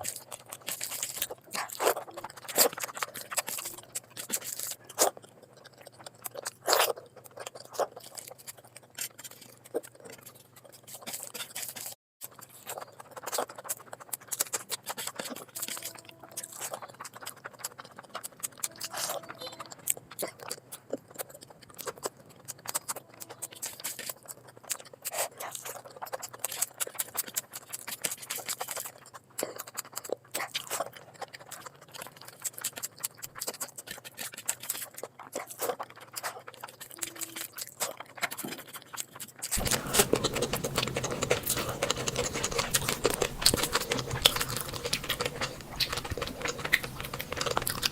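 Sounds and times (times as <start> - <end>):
mouth clicks and smacks: 0.0 - 47.9
person chewing food: 0.0 - 47.9.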